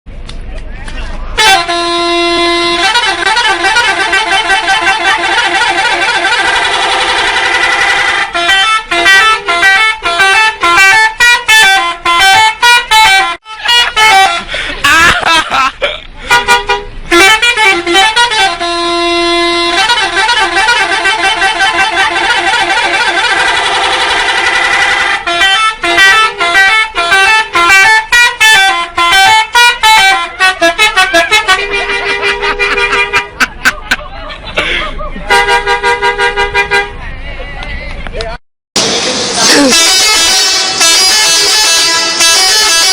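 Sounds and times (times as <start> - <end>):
bus musical horn: 0.8 - 37.7, 38.8 - 42.9.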